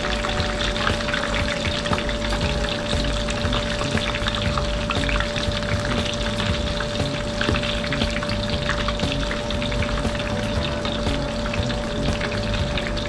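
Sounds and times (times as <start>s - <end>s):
deep-frying oil sizzling and popping: 0.0s - 13.0s.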